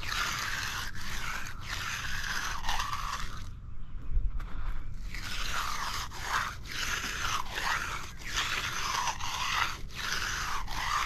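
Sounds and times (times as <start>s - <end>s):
concrete edger scraping wet concrete: 0.0s - 3.5s, 5.0s - 11.0s.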